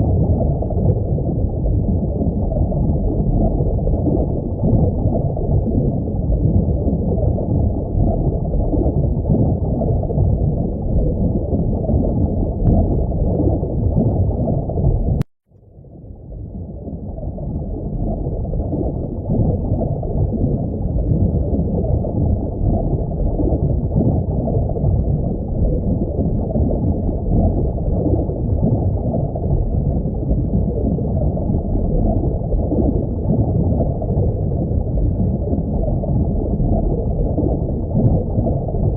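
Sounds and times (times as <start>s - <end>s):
muffled bubbling water: 0.0s - 38.9s.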